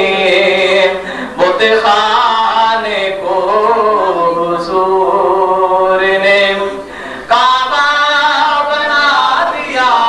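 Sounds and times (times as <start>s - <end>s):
man singing into microphones: 0.0s - 10.0s.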